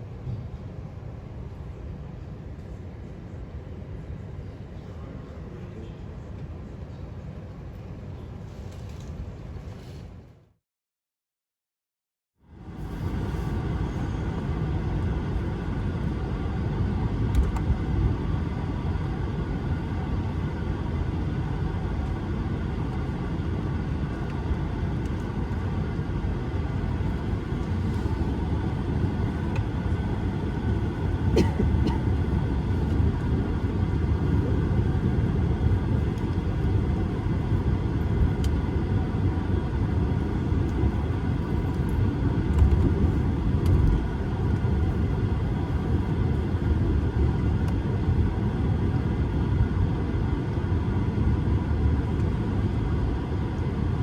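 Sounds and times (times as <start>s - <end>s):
aircraft cabin low rumble: 0.0s - 10.5s, 12.5s - 54.0s
faint jet engine hum: 0.0s - 10.6s, 12.4s - 54.0s.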